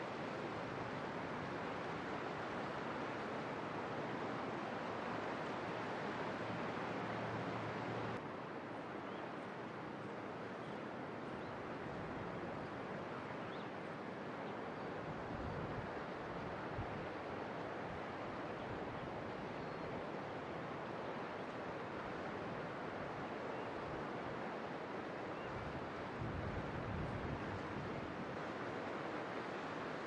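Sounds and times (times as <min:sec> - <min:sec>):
flowing water rushing: 0:00.0 - 0:26.2, 0:27.2 - 0:30.0.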